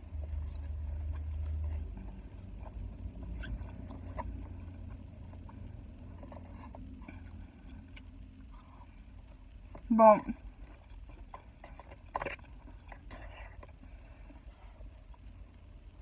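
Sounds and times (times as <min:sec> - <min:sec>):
chewing: 0:00.0 - 0:15.6
car interior rumble: 0:00.0 - 0:16.0.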